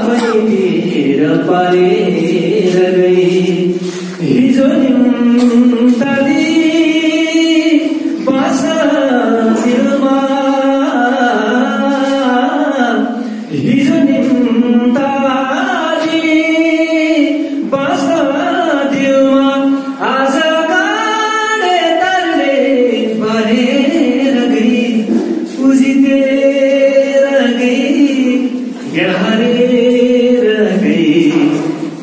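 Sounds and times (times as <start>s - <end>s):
man singing slow melody: 0.0s - 32.0s.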